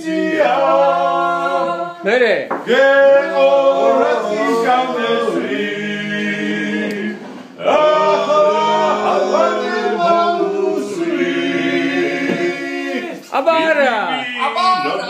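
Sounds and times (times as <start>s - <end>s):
men singing a cappella: 0.0s - 2.0s, 2.6s - 13.4s.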